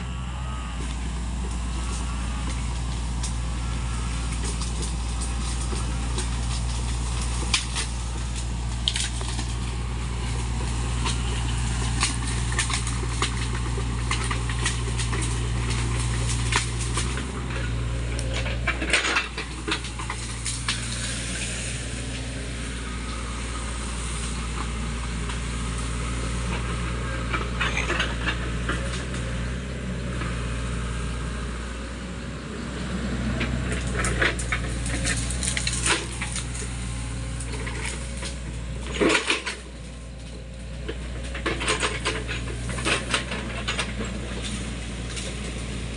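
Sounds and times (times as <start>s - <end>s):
excavator diesel engine: 0.0s - 45.9s
stems cracking and snapping: 0.8s - 29.4s, 33.4s - 45.9s.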